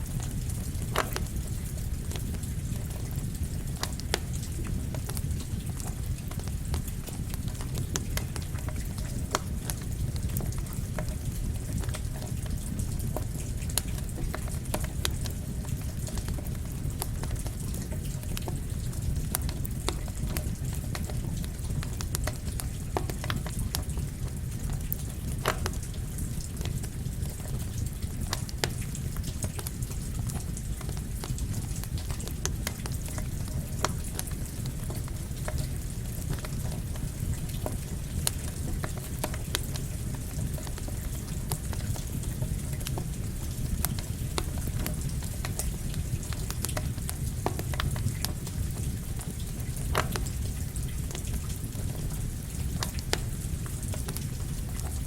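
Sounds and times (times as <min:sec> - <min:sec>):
campfire crackling and popping: 0:00.0 - 0:55.0
rain: 0:00.0 - 0:55.0.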